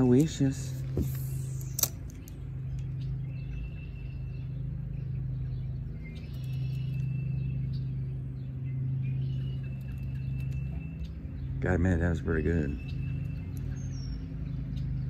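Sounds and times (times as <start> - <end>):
birds calling in high notes: 0.0 - 15.0
steady low hum: 0.0 - 15.0.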